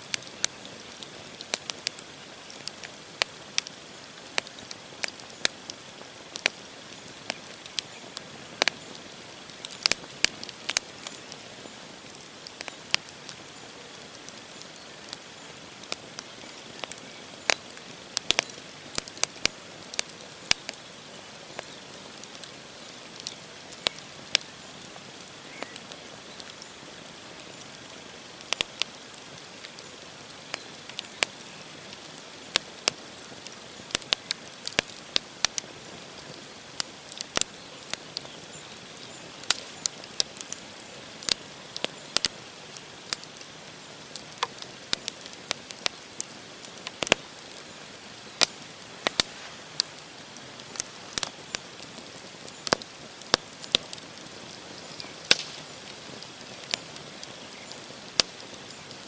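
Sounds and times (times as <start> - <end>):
fire hissing: 0.0 - 59.0
logs crackling and popping: 0.0 - 59.0.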